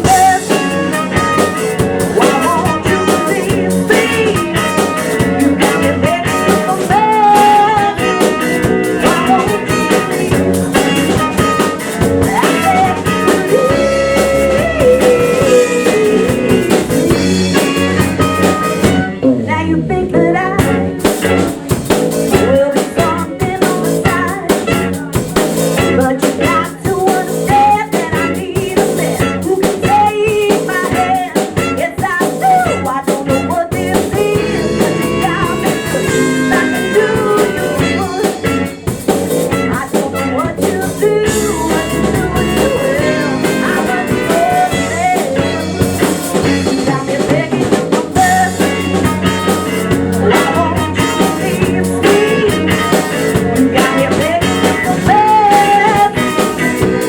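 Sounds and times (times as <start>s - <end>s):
drum kit: 0.0s - 57.0s
guitar: 0.0s - 57.0s
person singing: 0.0s - 57.0s.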